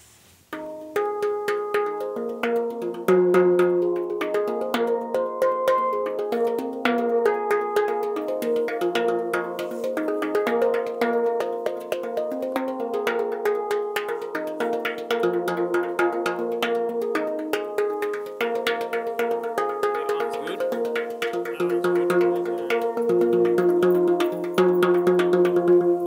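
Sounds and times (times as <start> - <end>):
handpan notes ringing: 0.6 - 26.0.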